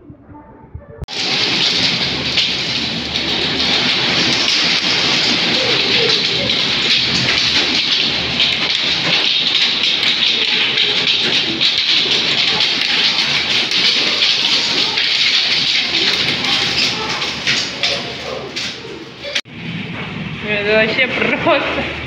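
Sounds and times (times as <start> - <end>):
heavy rain on window glass: 1.1 - 19.6.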